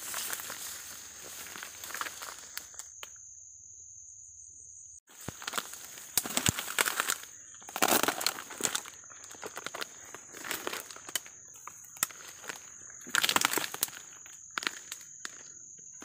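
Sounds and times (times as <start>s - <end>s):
dry reeds rustling and crackling: 0.0s - 3.0s, 5.1s - 15.5s.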